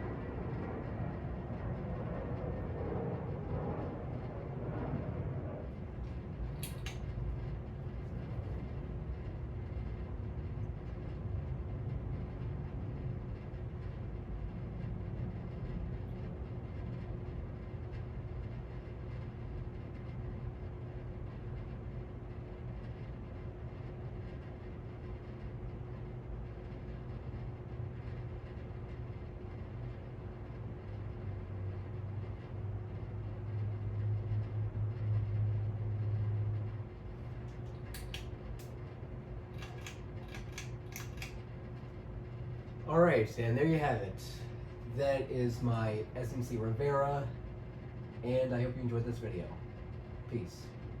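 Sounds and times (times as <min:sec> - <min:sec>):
ceiling fan running: 0:00.0 - 0:51.0.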